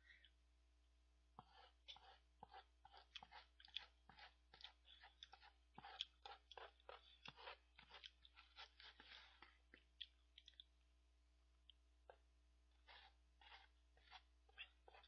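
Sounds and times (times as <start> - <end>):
person chewing noodles: 1.4 - 10.8, 11.7 - 15.0.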